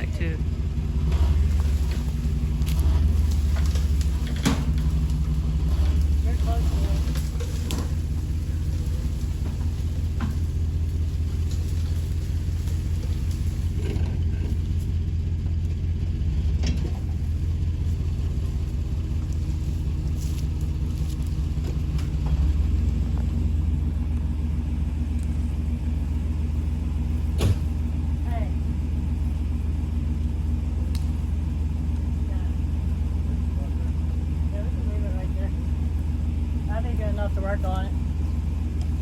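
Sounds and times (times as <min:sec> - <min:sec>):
truck engine at low revs: 0:00.0 - 0:39.0.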